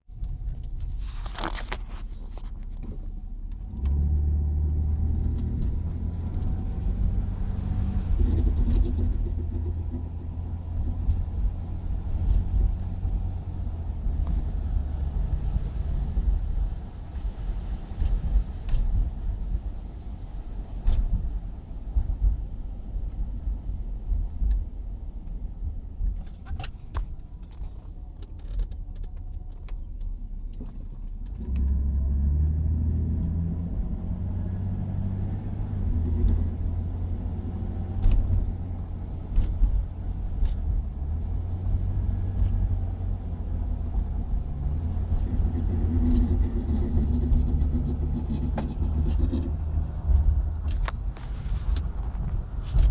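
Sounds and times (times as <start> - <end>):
car engine rumble: 0.0 - 52.9.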